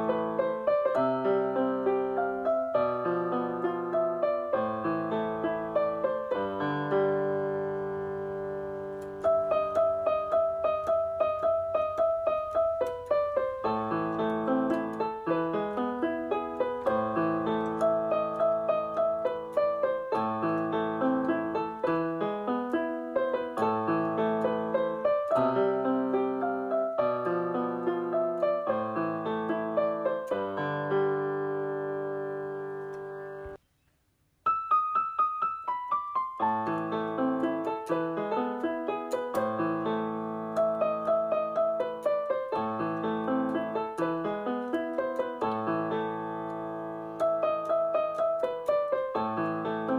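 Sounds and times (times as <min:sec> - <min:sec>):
piano music: 0:00.0 - 0:33.6, 0:34.4 - 0:49.9.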